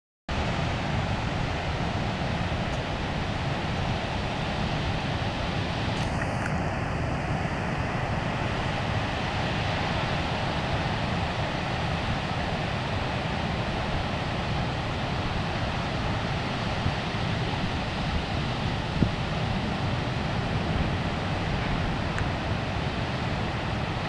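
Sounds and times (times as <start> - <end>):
ocean surf breaking: 0.3 - 24.0
wind rumbling on microphone: 0.3 - 24.0.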